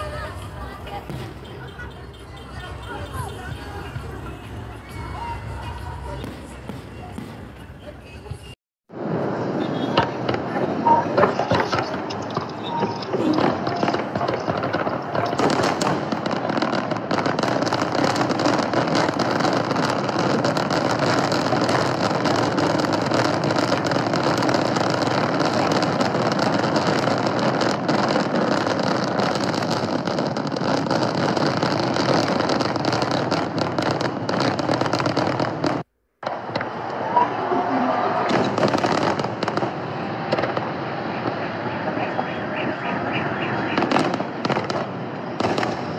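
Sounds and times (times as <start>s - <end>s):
fireworks crackling and popping: 0.0s - 37.5s, 38.2s - 45.9s.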